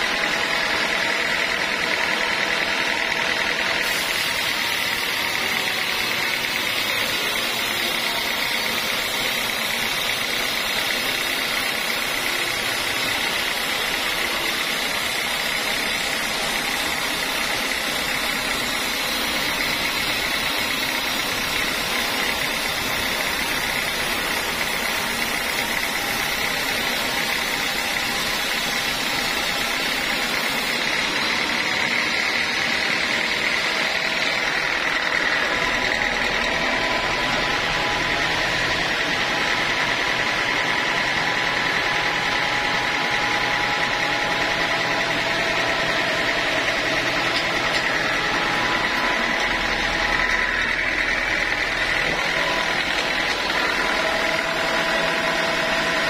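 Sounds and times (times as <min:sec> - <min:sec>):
band saw running: 0:00.0 - 0:56.0.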